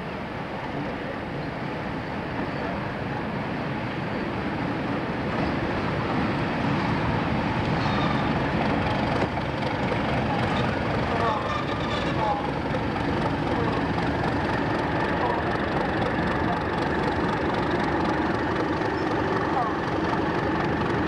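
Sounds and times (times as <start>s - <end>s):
diesel locomotive engines running: 0.0s - 21.0s.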